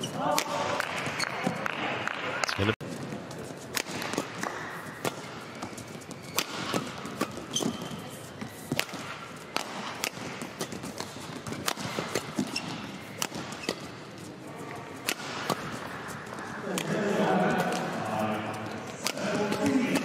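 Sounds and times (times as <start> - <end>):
racket hitting shuttlecock: 0.0 - 2.2, 3.7 - 14.0, 15.0 - 18.0, 18.8 - 20.0.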